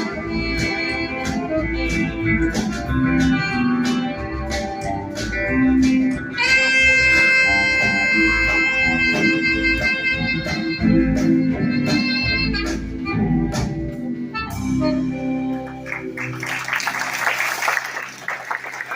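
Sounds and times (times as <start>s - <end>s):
blues-rock band playing: 0.0s - 18.9s.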